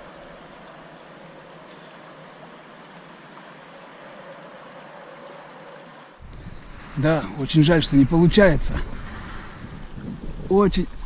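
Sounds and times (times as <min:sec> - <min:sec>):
faint steady hum: 0:00.0 - 0:11.0
stream flowing: 0:00.0 - 0:11.0.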